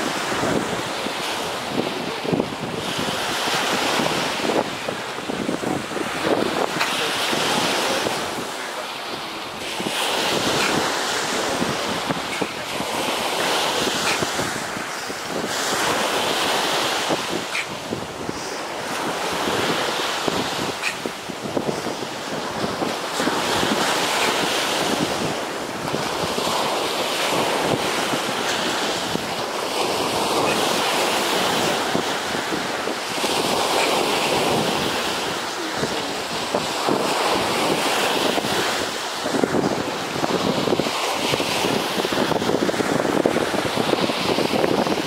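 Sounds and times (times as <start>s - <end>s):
surf breaking on beach: 0.0s - 45.0s
wind on microphone: 0.0s - 45.0s.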